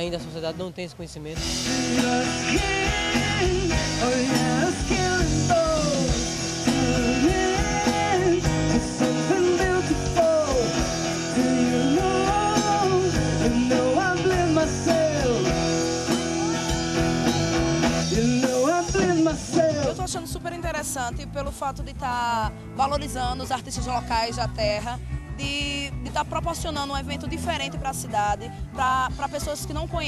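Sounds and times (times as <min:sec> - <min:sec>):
pop-rock song with singer: 0:01.4 - 0:30.0.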